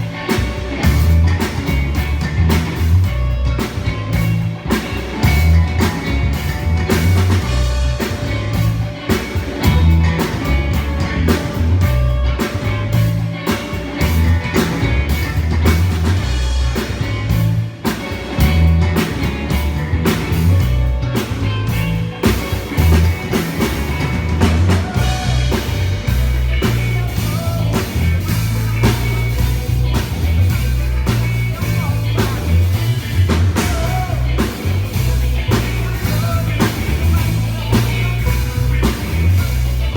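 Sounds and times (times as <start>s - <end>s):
bass line: 0.0s - 39.9s
drum kit steady beat: 0.0s - 39.9s
guitar: 0.0s - 39.9s.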